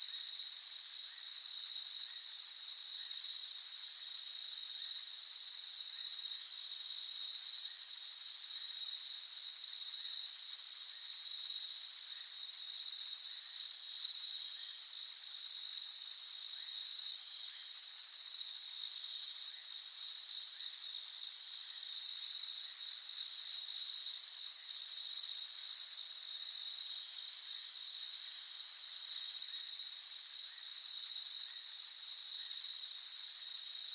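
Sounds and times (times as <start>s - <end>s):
crickets chirping in chorus: 0.0s - 33.9s.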